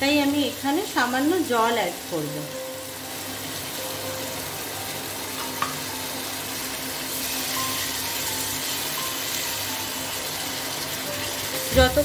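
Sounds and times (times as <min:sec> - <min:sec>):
masala sizzling in wok: 0:00.0 - 0:12.0.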